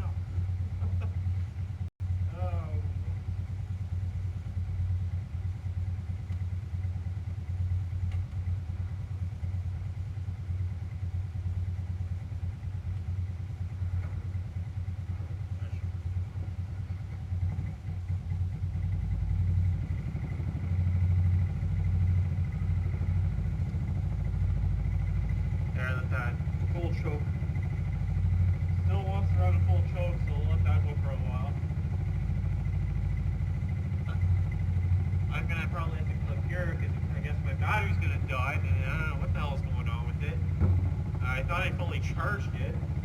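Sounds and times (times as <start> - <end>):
single-cylinder engine idling: 0.0 - 43.0.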